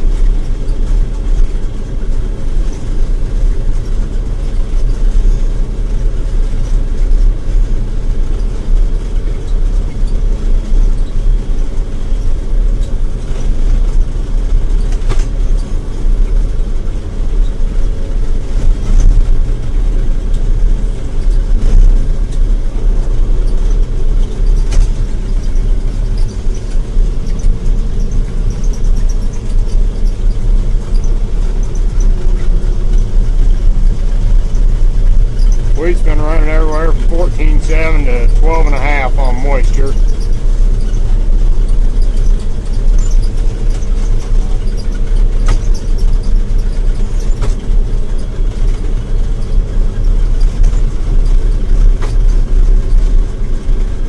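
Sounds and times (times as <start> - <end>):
combine harvester droning: 0.0 - 54.0.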